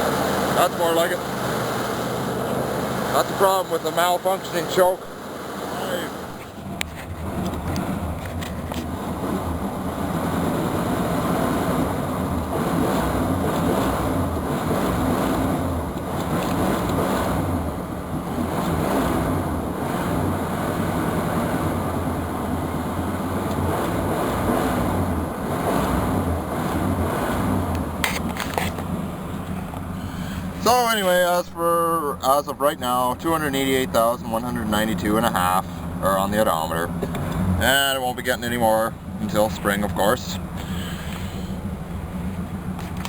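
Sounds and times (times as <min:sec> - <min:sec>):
car engine running: 0:00.0 - 0:43.0.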